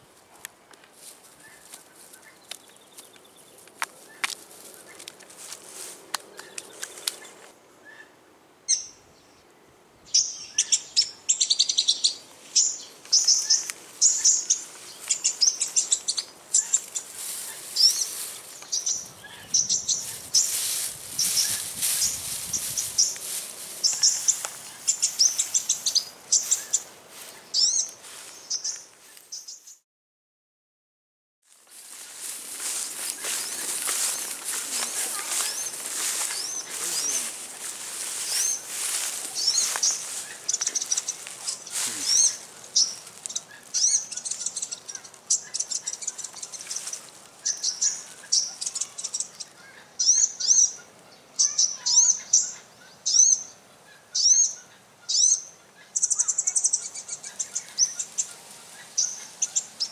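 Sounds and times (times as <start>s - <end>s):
small birds chirping: 1.0s - 29.8s, 31.5s - 59.9s.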